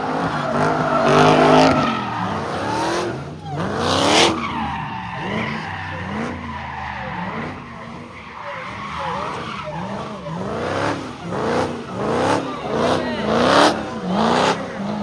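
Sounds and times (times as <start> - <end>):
car engine revving: 0.0 - 15.0
tires screeching: 0.0 - 15.0.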